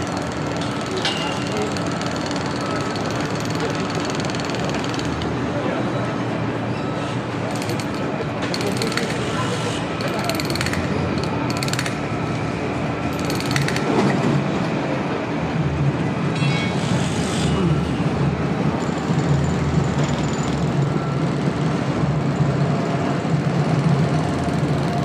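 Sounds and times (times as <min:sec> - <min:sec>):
low rumble of traffic: 0:00.0 - 0:25.0.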